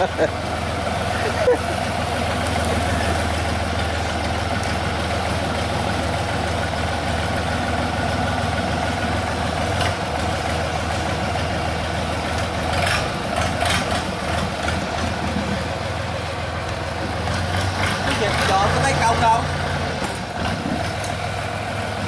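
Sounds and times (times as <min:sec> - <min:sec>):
boat engine running: 0:00.0 - 0:22.0
propeller churning water: 0:00.0 - 0:22.0.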